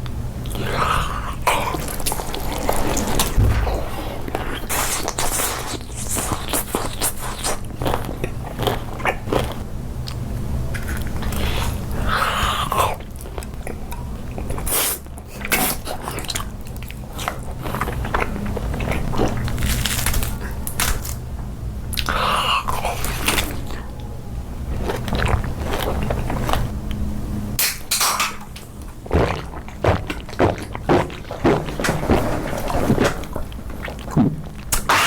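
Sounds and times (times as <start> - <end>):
chewing crunchy food: 0.0 - 21.3, 21.9 - 24.0, 24.6 - 27.1, 28.0 - 35.0.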